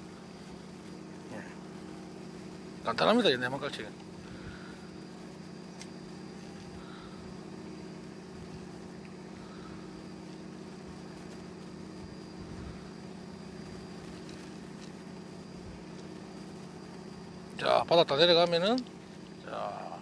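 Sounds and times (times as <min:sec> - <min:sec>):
boat engine humming: 0:00.0 - 0:20.0
faint high whine: 0:00.0 - 0:20.0.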